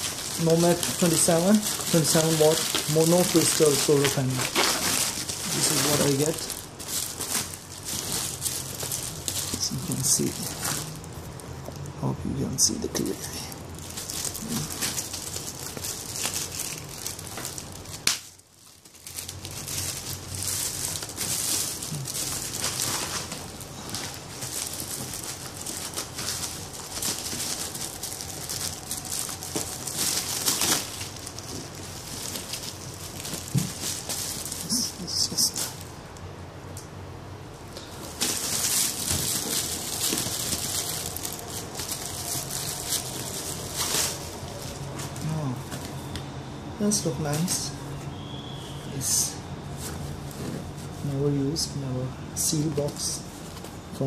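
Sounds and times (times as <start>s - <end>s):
plastic packaging crinkling: 0.0s - 12.0s, 12.6s - 36.4s, 37.6s - 46.2s.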